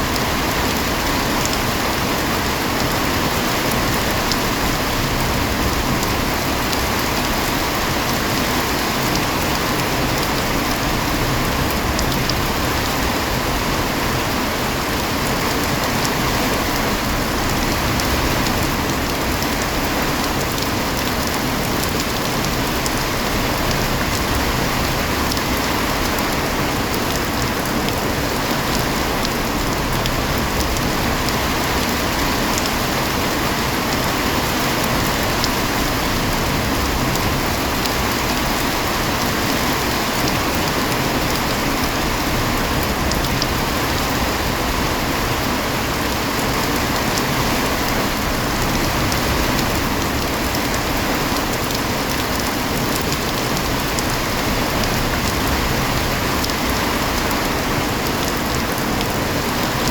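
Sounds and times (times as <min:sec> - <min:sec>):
heavy rain hiss: 0:00.0 - 0:59.9
raindrops ticking on a surface: 0:00.0 - 0:59.9.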